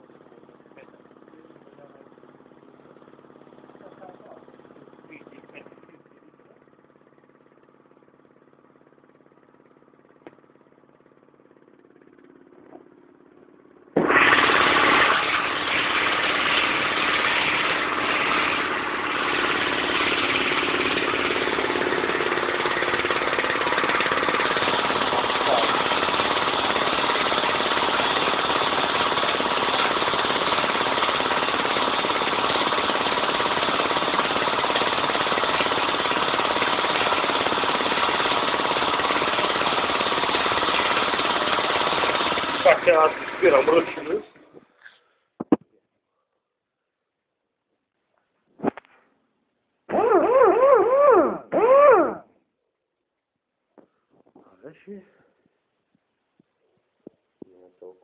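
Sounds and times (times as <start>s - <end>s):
air compressor running: 0.0s - 45.6s, 49.8s - 52.4s.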